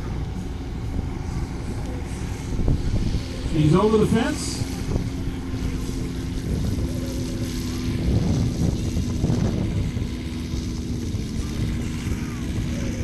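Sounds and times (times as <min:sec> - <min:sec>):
low rumble: 0:00.0 - 0:13.0
model plane engine running: 0:00.0 - 0:13.0.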